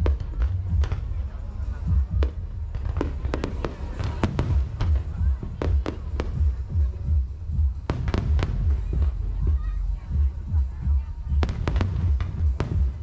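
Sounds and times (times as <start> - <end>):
fireworks bangs and cracks: 0.0 - 7.0, 7.6 - 9.6, 11.4 - 13.0
deep rumble: 0.0 - 13.0.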